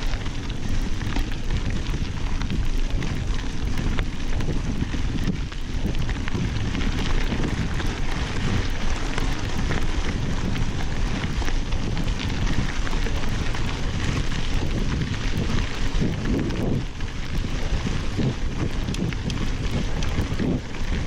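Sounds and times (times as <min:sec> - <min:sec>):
grit ticking under tyres: 0:00.0 - 0:21.0
tyres rolling on loose gravel: 0:00.0 - 0:21.0
wind rushing over microphone: 0:00.0 - 0:21.0.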